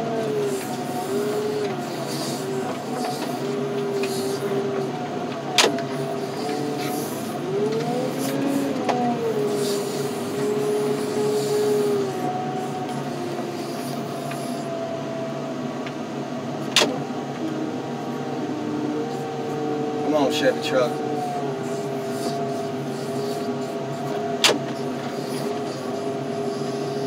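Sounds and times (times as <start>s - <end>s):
heavy equipment whining: 0.0s - 27.0s.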